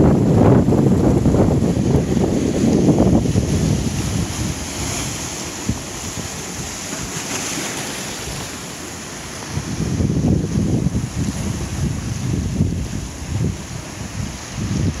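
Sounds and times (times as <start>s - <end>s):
ocean surf breaking over rocks: 0.0s - 15.0s
wind buffeting microphone: 0.0s - 15.0s.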